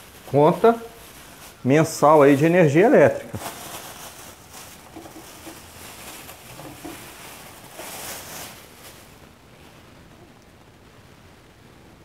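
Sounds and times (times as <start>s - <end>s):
plastic bag rustling: 0.0s - 10.3s.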